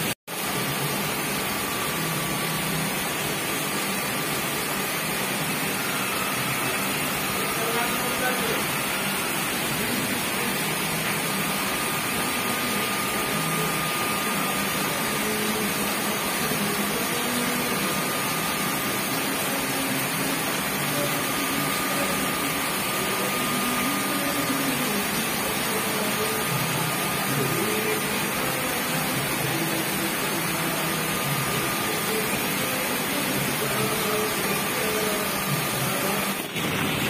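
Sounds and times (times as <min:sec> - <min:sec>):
heavy rain pouring: 0:00.0 - 0:37.0
thin high tone: 0:00.8 - 0:36.4.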